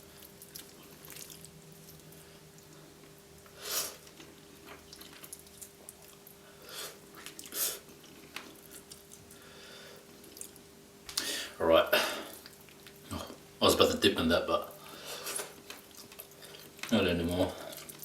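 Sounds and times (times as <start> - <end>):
person chewing food: 0.0 - 11.3, 12.2 - 13.5, 14.8 - 18.0.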